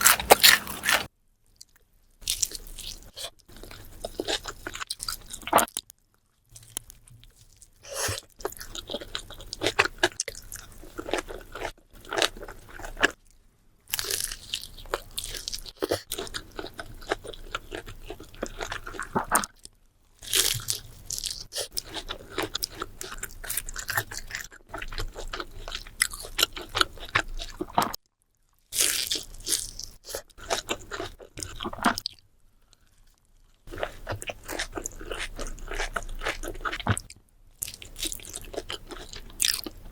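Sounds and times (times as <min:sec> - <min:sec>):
crunchy biting and chewing: 0:00.0 - 0:05.9, 0:06.5 - 0:13.2, 0:13.9 - 0:28.0, 0:28.8 - 0:39.9.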